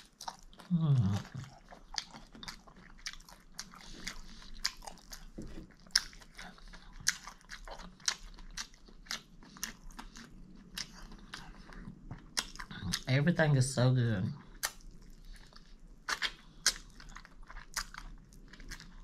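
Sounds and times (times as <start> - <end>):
person chewing crunchy food: 0.0 - 13.1, 14.4 - 19.0.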